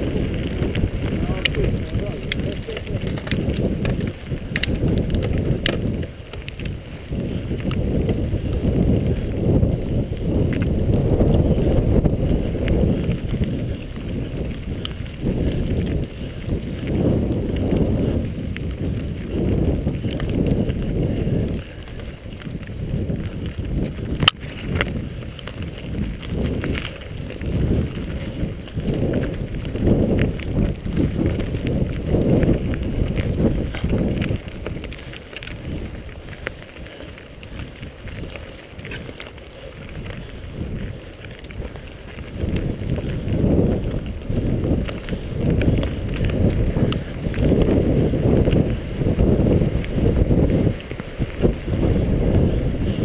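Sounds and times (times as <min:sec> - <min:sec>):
bike rattles and clicks: 0:00.0 - 0:53.0
bike tyres rumbling on gravel: 0:00.0 - 0:53.0
wind on microphone: 0:00.0 - 0:53.0.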